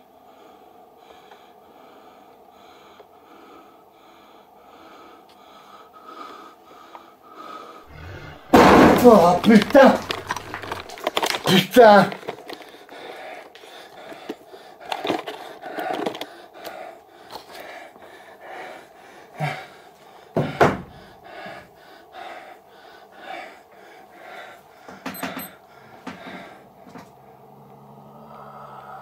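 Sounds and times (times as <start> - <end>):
man breathing heavily: 0.0 - 27.4.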